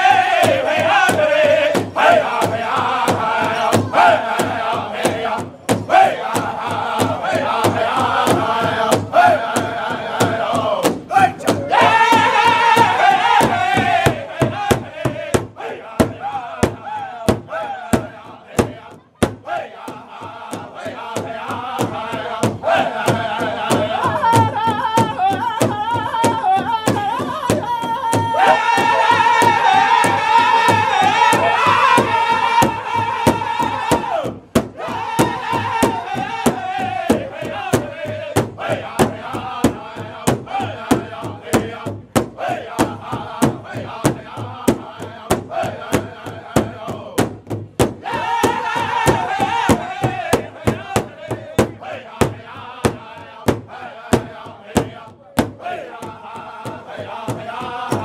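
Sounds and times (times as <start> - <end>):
large hand drum steady beat: 0.0 - 58.0
men singing in high voices: 0.0 - 58.0.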